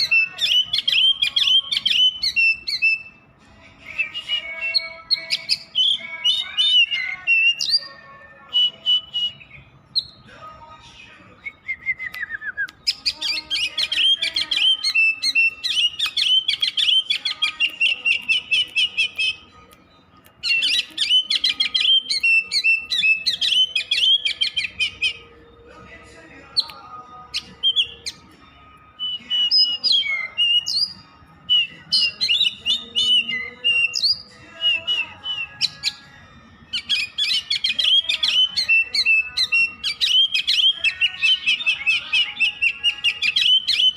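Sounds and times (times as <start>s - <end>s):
magpie-robin singing: 0.0s - 43.9s.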